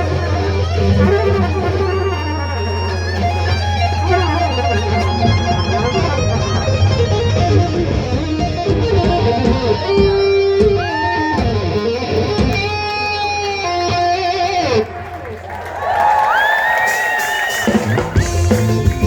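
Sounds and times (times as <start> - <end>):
live ska band playing: 0.0 - 14.9, 16.9 - 19.0.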